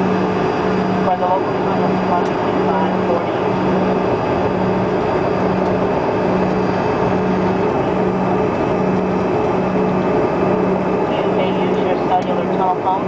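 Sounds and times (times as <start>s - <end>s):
jet engines at low thrust: 0.0s - 13.0s
pulsing low hum: 0.0s - 13.0s.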